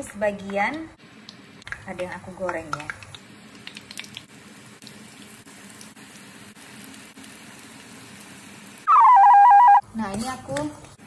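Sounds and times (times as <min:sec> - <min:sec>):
food deep-frying in hot oil: 0:00.0 - 0:09.0.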